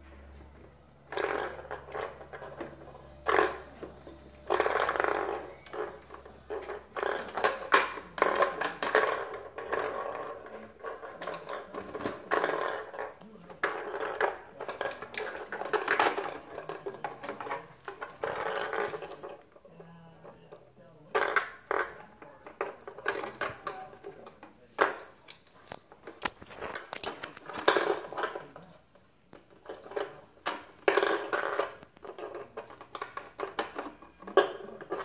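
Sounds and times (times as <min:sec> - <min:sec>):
plastic balls rattling in toy track: 0:01.0 - 0:35.0.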